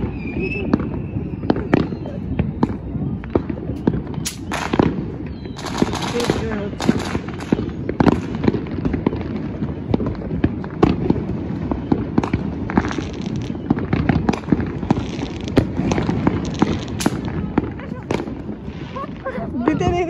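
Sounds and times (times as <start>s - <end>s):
distant explosions rumbling: 0.0s - 20.0s
firecrackers cracking and banging: 0.0s - 20.0s.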